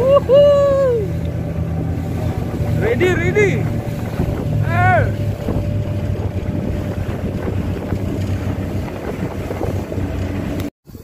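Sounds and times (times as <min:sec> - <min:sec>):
motorboat engine droning: 0:00.0 - 0:11.0
wind buffeting microphone: 0:00.0 - 0:11.0.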